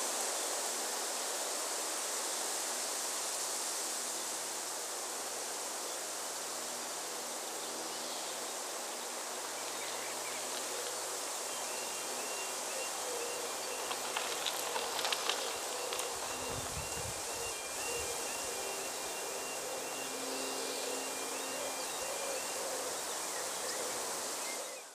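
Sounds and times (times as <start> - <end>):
steady outdoor hiss: 0.0 - 24.9.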